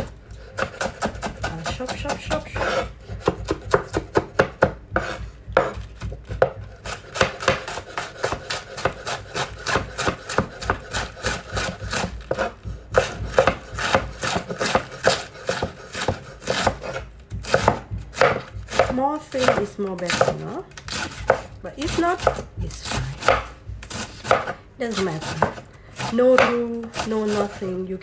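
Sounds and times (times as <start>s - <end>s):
knife slicing cabbage on board: 0.0s - 27.8s.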